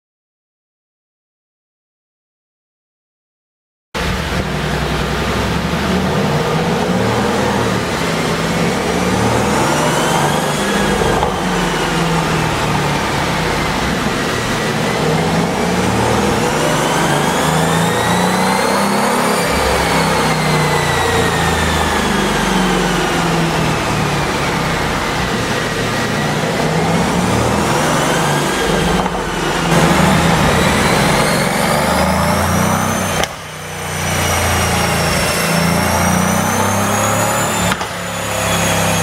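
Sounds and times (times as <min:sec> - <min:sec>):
car engine revving on a dyno: 0:04.0 - 0:39.0.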